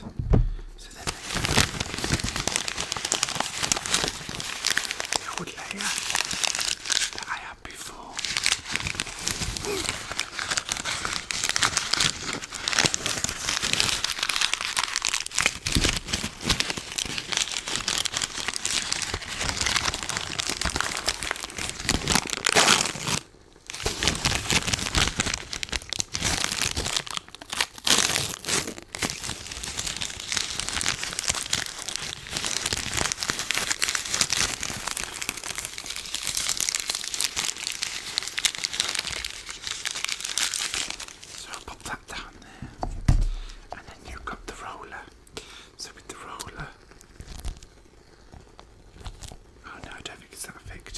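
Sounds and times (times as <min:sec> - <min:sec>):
sticky paper crackling: 0:00.8 - 0:42.2.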